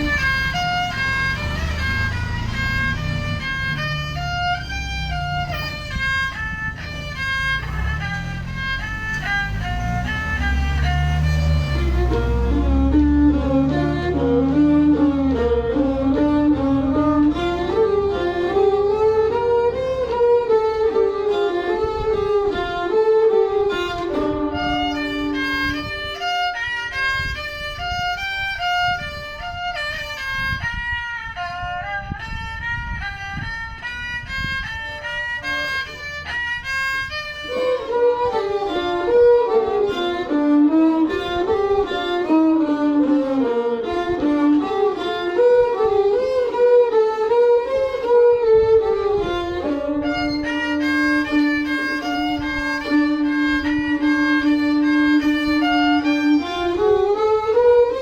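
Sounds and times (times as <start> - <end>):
bowed fiddle melody: 0.0 - 58.0.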